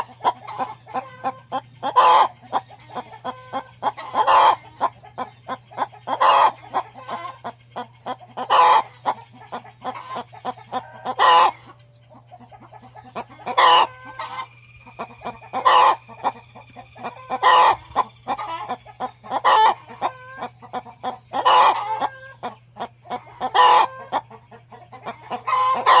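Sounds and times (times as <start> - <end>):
hen cackling: 0.0 - 26.0
steady low hum: 0.0 - 26.0.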